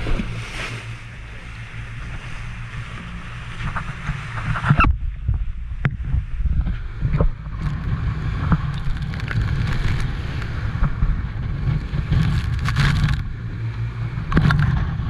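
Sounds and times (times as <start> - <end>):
motorboat engine rumble: 0.0 - 15.0.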